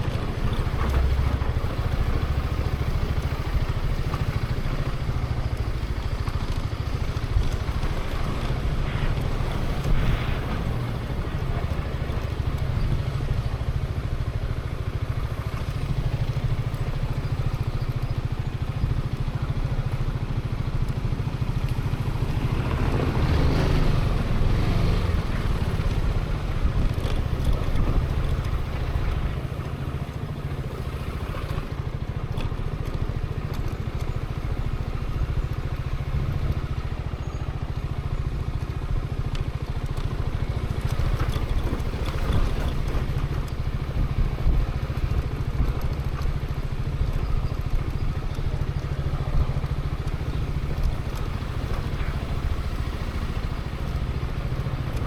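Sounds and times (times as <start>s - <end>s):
road noise: 0.0s - 55.0s
scooter engine running: 0.0s - 55.0s.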